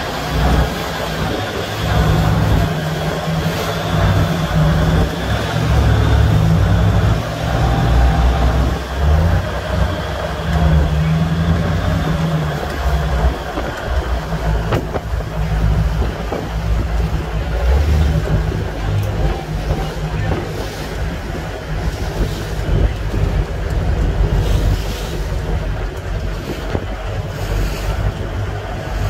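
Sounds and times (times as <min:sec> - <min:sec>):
marine diesel engines rumbling: 0:00.0 - 0:29.0.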